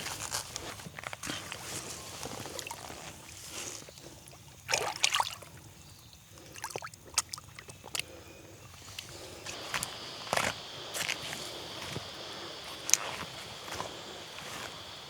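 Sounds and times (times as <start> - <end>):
creek water splashing: 0.0 - 15.0.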